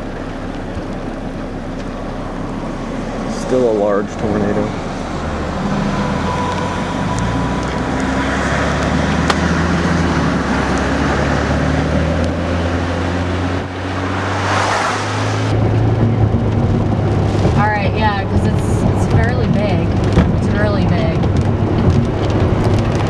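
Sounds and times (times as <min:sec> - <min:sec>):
car engine hum: 0:00.0 - 0:23.0
road and tyre noise: 0:00.0 - 0:23.0.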